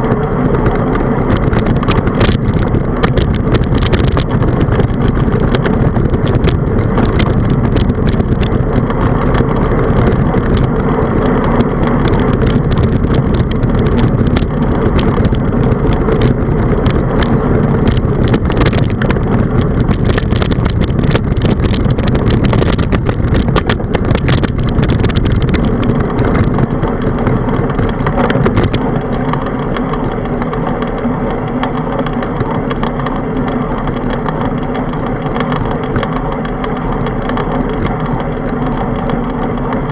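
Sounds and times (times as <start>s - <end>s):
bike clicks and rattles: 0.0s - 39.9s
road rumble: 0.0s - 39.9s
wind buffeting microphone: 0.0s - 39.9s.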